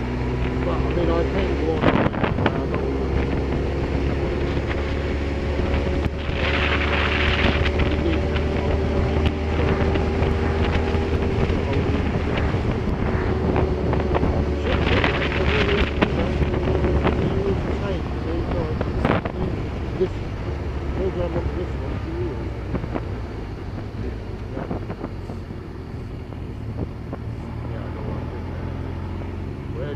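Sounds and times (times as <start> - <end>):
car road and engine drone: 0.0 - 29.9.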